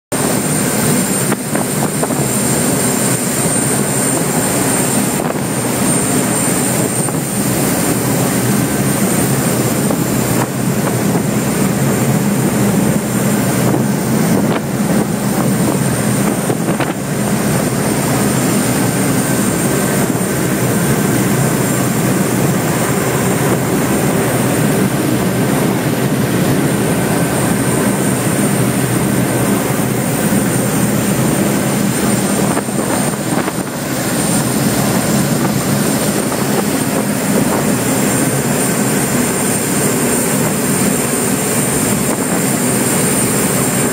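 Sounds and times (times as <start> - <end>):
high whine: 0.1 - 43.9
rushing water noise: 0.1 - 43.9
race boat engines droning: 0.2 - 43.9.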